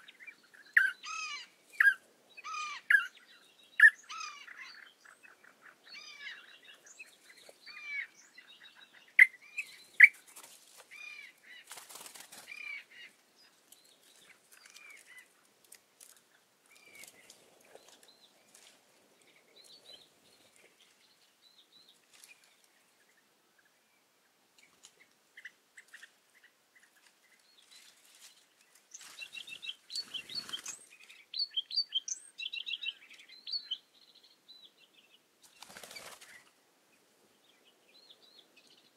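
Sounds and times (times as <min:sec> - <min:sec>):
songbirds chirping and warbling: 0:00.0 - 0:38.9.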